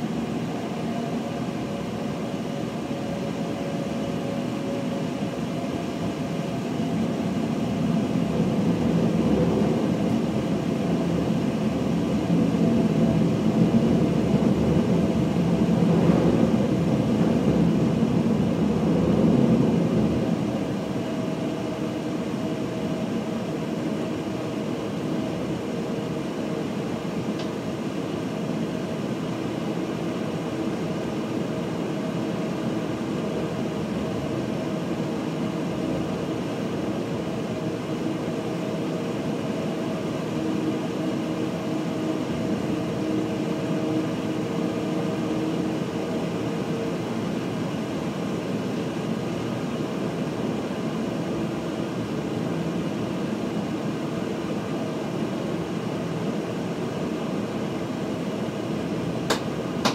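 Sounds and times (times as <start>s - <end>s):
train running whir: 0.0s - 59.9s.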